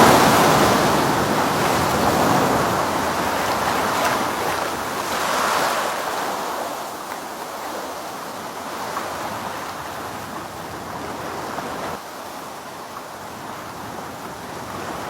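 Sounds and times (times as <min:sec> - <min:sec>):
wind on microphone: 0:00.0 - 0:12.0, 0:13.2 - 0:15.0
ocean surf washing onto beach: 0:00.0 - 0:15.0.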